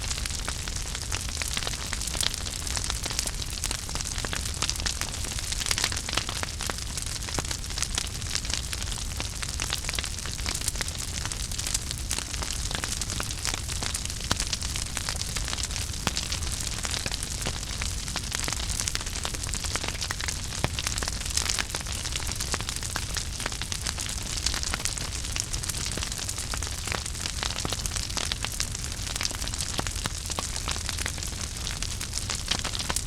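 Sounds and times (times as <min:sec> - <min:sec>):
wood fire crackling and hissing: 0:00.0 - 0:33.0.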